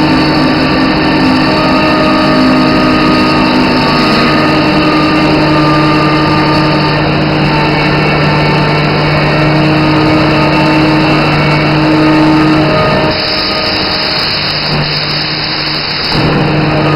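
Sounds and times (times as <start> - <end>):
machine hiss: 0.0 - 16.9
woodworking machine humming: 0.0 - 16.9.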